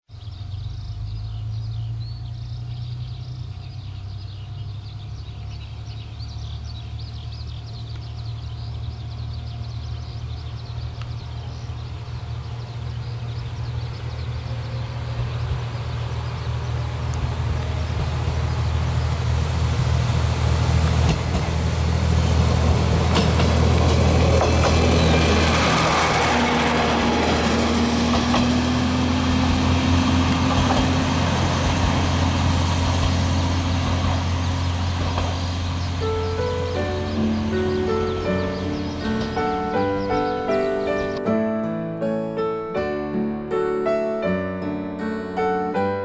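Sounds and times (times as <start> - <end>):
diesel railcar engine: 0.1 - 41.4.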